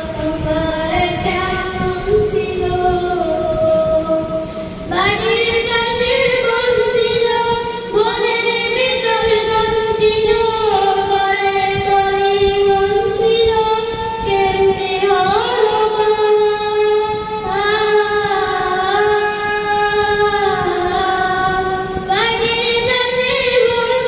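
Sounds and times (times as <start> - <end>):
girl singing into microphone: 0.0 - 24.0.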